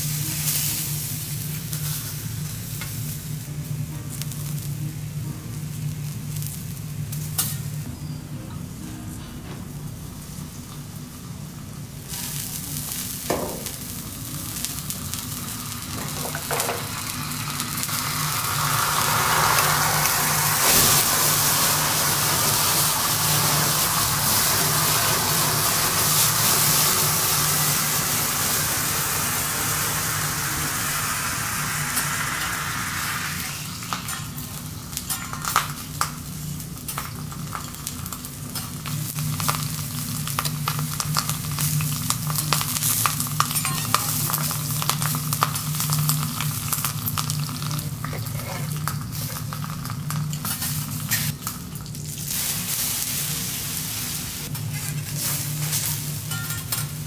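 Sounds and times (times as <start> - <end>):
food sizzling on a griddle: 0.0 - 7.8, 10.2 - 57.0
steady low hum: 0.0 - 48.0.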